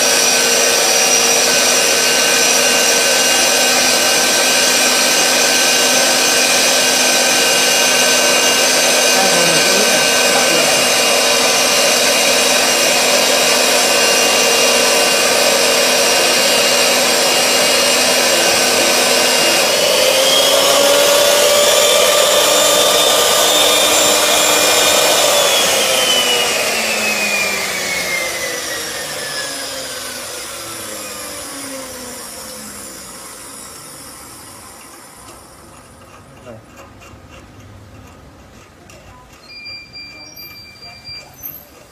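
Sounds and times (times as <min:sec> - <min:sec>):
threading machine whine: 0:00.0 - 0:36.2, 0:39.3 - 0:41.9.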